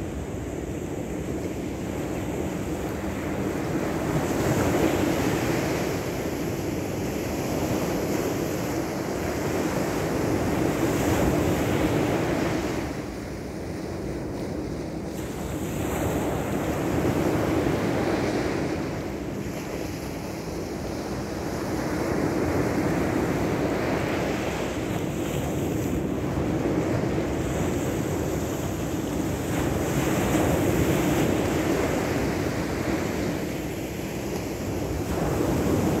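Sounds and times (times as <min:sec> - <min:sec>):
surf washing onto beach: 0:00.0 - 0:36.0
wind rumbling on microphone: 0:00.0 - 0:36.0.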